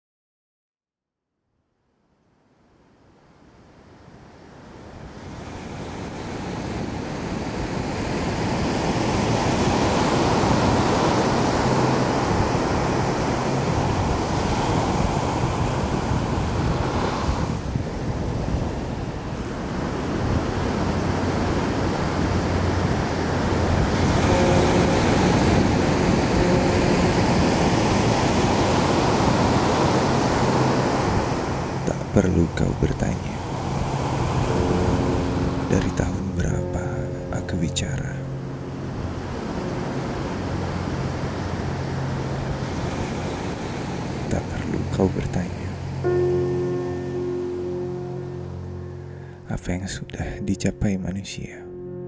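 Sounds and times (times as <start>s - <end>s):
steady rushing ambience: 8.9s - 52.0s.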